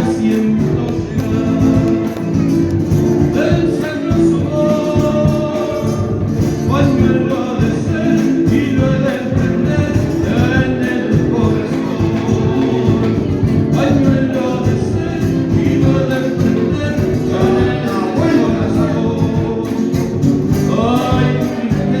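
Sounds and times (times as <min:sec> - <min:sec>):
folk music with singing: 0:00.0 - 0:22.0.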